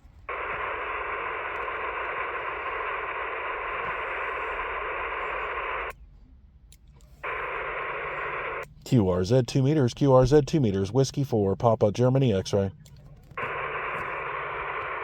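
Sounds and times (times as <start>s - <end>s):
radio static hiss: 0.0s - 6.0s, 7.2s - 15.0s.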